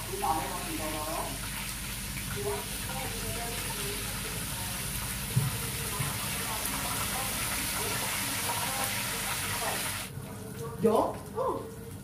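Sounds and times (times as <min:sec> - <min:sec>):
fish sizzling in hot oil: 0:00.0 - 0:10.1.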